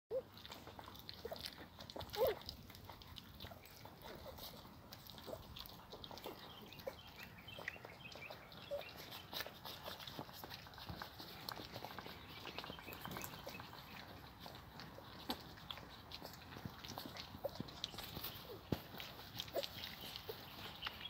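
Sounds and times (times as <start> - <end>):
puppies chewing and licking: 0.1 - 21.0
puppy whimpers: 0.1 - 21.0.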